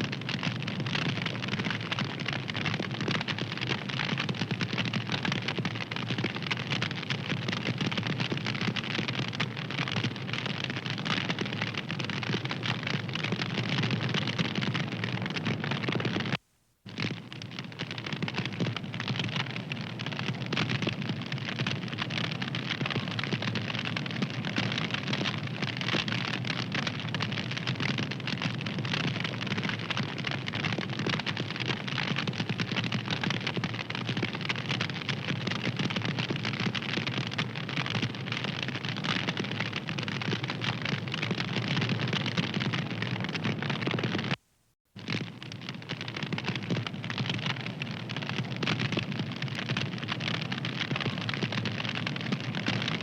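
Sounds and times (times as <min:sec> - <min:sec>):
wood fire crackling: 0:00.0 - 0:44.4.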